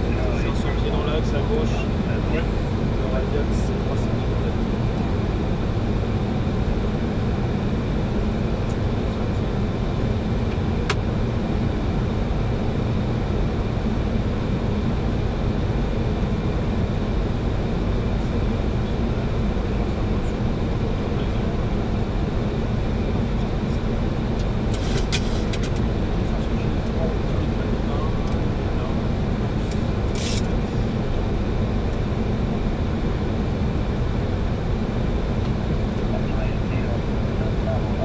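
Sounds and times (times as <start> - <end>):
airflow and engine noise in cockpit: 0.0 - 38.0.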